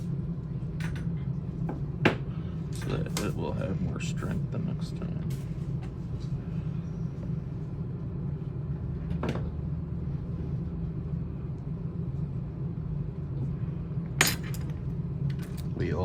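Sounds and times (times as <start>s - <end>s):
equipment hum: 0.0s - 16.0s.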